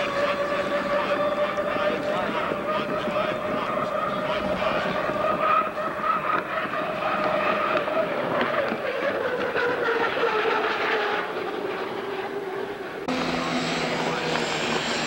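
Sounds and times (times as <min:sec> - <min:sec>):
racing boat engine whine: 0:00.0 - 0:15.0.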